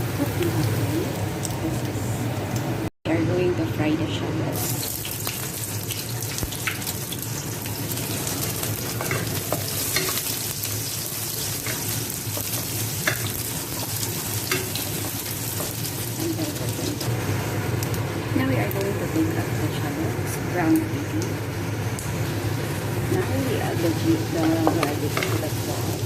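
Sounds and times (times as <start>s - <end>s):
shallots sizzling in oil: 0.0s - 2.7s, 4.5s - 26.0s.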